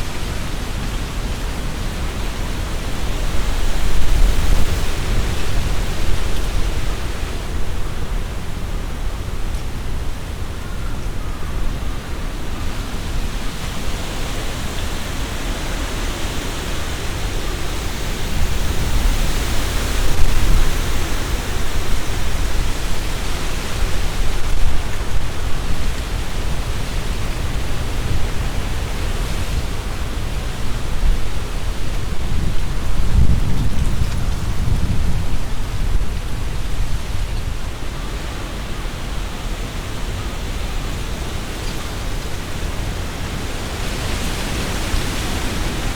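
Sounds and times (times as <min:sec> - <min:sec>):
leaves rustling in wind: 0:00.0 - 0:45.9
wind buffeting microphone: 0:00.0 - 0:45.9.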